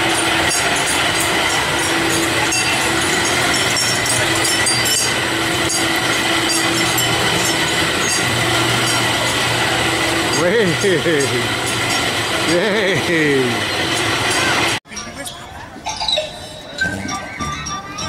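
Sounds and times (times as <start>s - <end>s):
high mechanical whine: 0.0s - 15.2s
ride machinery humming: 0.0s - 18.0s.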